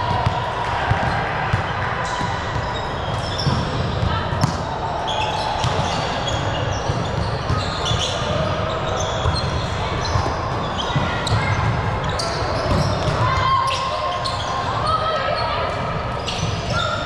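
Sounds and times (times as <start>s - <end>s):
players' voices: 0.0s - 17.0s
shoe squeaks: 2.0s - 4.5s, 5.1s - 15.6s, 16.2s - 17.0s.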